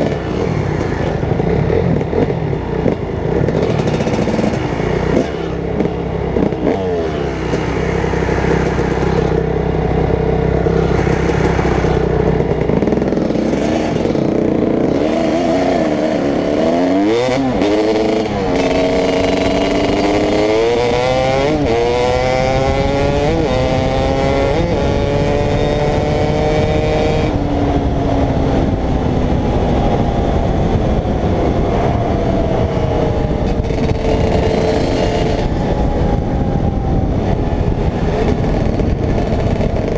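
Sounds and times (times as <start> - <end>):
dirt bike engine accelerating: 0.0 - 39.9
wind noise on microphone: 0.0 - 39.9.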